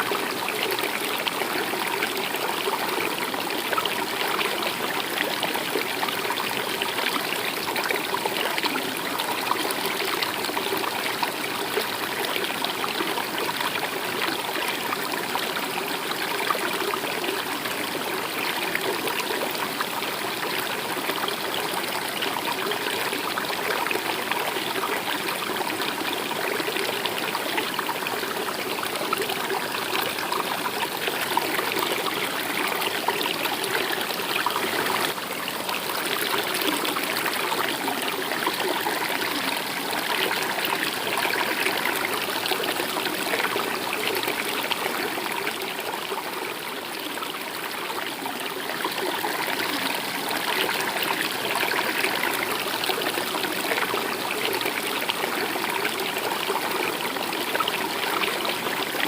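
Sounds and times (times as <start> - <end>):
stream running and trickling: 0.0 - 59.0.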